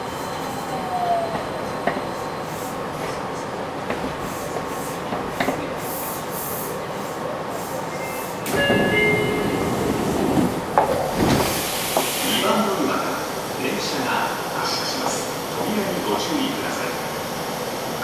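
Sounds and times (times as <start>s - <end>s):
train rumbling in tunnel: 0.0s - 18.0s.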